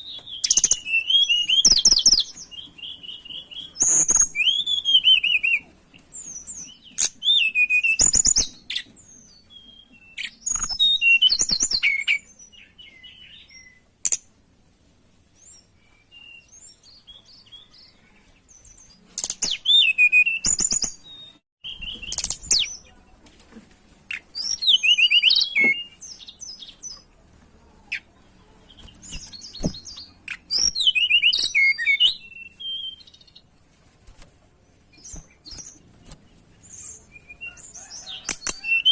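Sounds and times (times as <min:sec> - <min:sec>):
bird whistles and trills: 0:00.0 - 0:14.2, 0:15.4 - 0:22.8, 0:24.1 - 0:27.0, 0:28.7 - 0:33.4, 0:34.9 - 0:35.9, 0:36.6 - 0:38.9.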